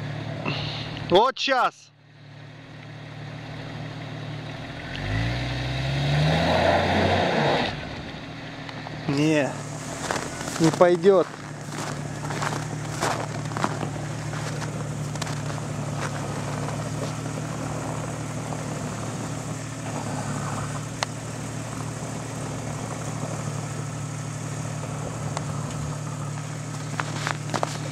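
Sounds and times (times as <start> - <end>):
car engine running at low revs: 0.0 - 1.2, 2.0 - 27.9.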